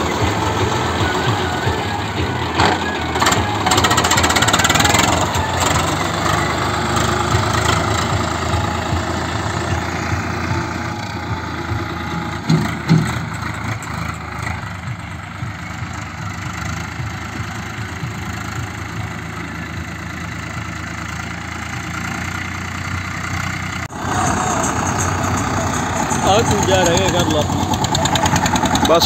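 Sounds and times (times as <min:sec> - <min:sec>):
tractor engines running: 0:00.0 - 0:29.0.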